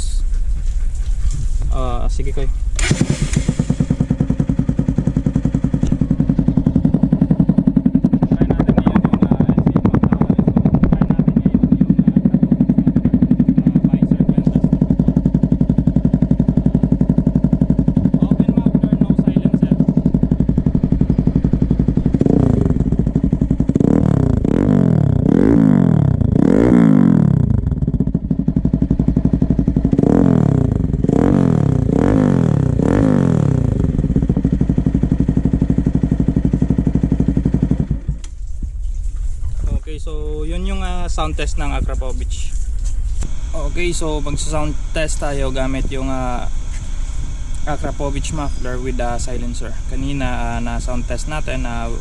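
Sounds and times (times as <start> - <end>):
motorcycle engine idling: 0.0 - 52.0
motorcycle engine revving: 1.6 - 38.4, 40.2 - 52.0.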